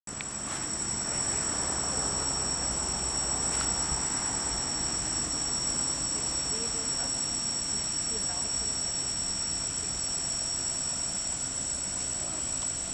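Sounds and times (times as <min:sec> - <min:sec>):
drone motors whining: 0:00.2 - 0:12.9.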